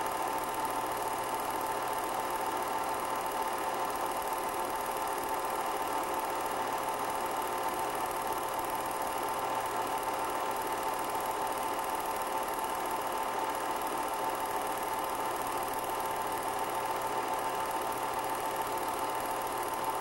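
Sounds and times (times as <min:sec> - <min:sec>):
film projector whirring: 0:00.0 - 0:20.0.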